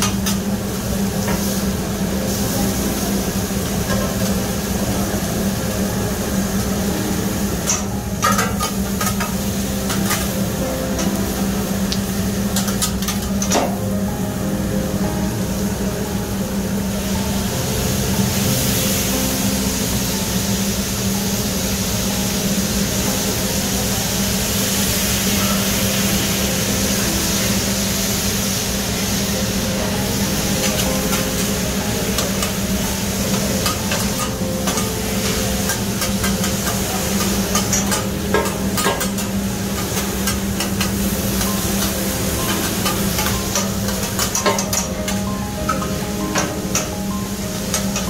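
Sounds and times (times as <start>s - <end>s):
food sizzling on griddle: 0.0s - 48.0s.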